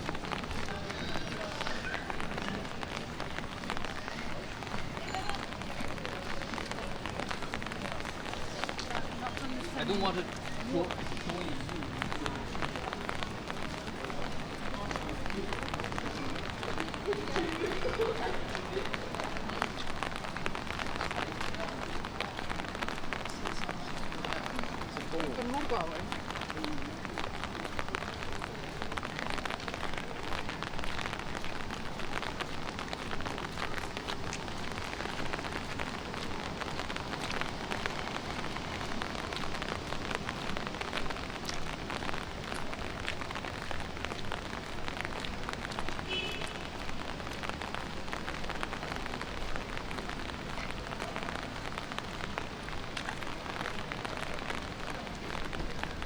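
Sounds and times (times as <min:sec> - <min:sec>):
light rain patter: 0:00.0 - 0:56.0.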